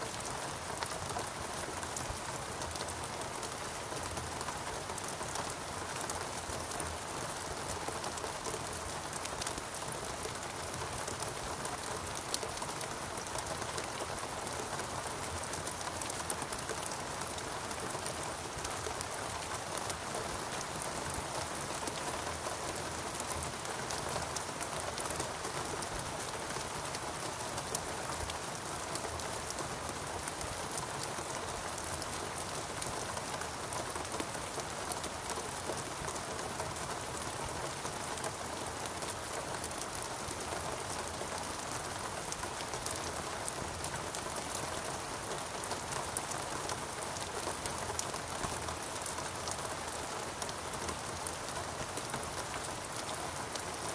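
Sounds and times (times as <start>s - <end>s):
rain pattering on foliage: 0.0s - 53.9s.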